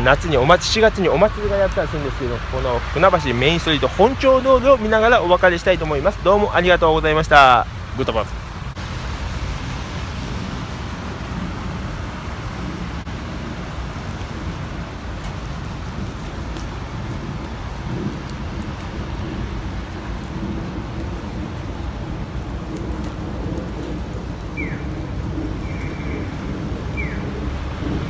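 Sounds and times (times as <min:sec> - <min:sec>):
street traffic: 0:00.0 - 0:28.0
wind rumble on microphone: 0:00.0 - 0:28.0.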